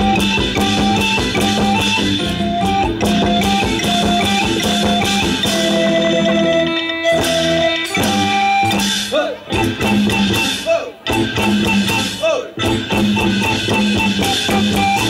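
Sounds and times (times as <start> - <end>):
held notes: 0.0 - 15.0.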